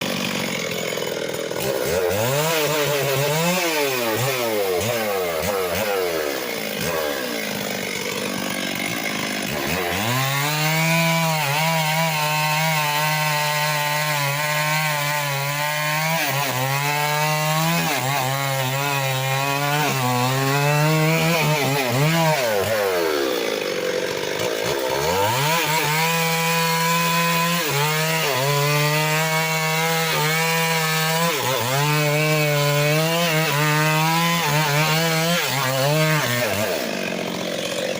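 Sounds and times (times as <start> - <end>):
chainsaw revving and cutting wood: 0.0 - 37.9.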